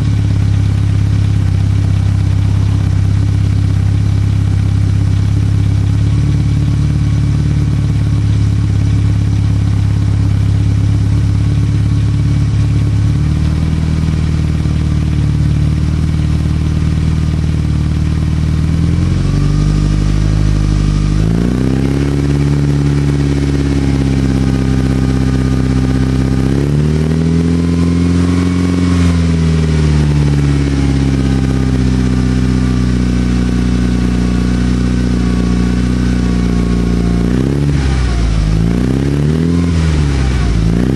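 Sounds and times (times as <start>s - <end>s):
car engine free-revving: 0.0s - 40.9s.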